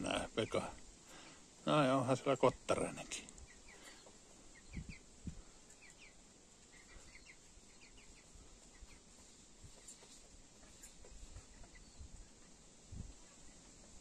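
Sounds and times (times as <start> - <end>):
faint bird chirps: 2.2 - 14.0.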